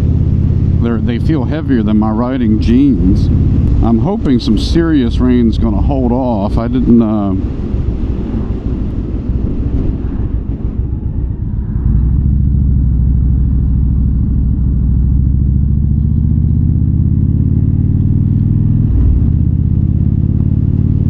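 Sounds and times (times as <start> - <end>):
wind noise: 0.0 - 15.9, 18.5 - 21.0
motorcycle engine running: 0.0 - 21.0.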